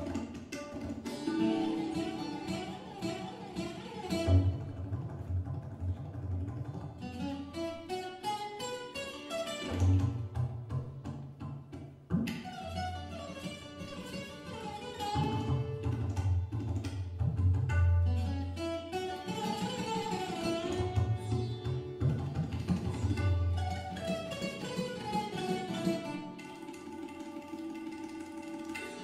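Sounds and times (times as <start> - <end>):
slide guitar melody: 0.0 - 5.3, 6.9 - 29.0
tabla strokes: 0.0 - 29.0.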